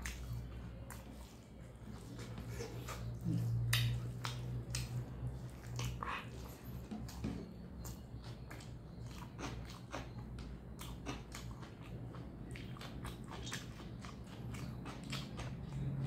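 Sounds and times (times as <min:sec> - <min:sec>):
steady low hum: 0:00.0 - 0:16.0
wet chewing mouth clicks: 0:02.0 - 0:16.0.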